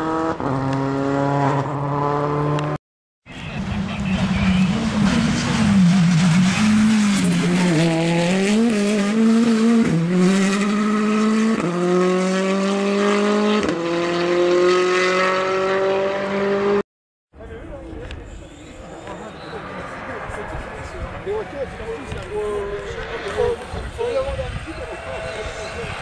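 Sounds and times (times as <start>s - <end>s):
rally car engine revving: 0.0s - 2.8s, 3.6s - 16.8s, 18.8s - 26.0s.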